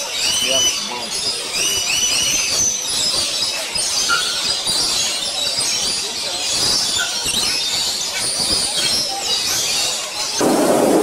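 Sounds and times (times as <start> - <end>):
flock of parrots screeching: 0.0 - 10.4.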